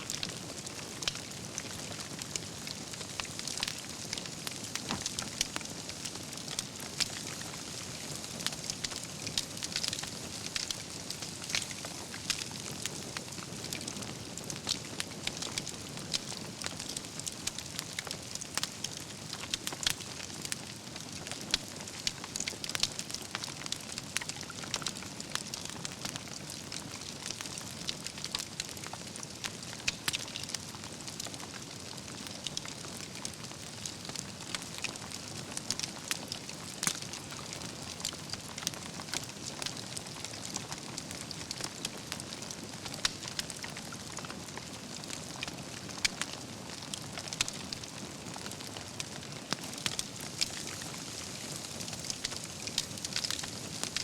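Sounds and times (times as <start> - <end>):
burning logs crackling and popping: 0.0 - 54.0
campfire hissing: 0.0 - 54.0.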